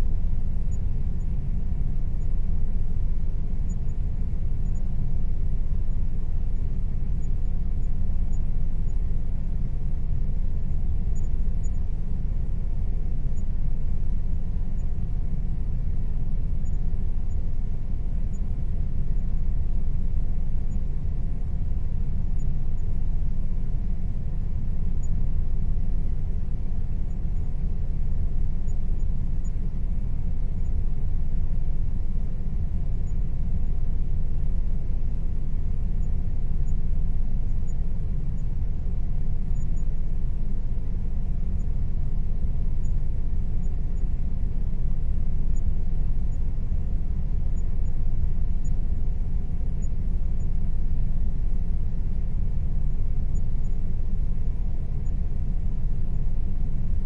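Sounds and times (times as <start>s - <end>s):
air conditioner rumble: 0.0s - 57.0s
faint steady hum: 0.0s - 57.0s.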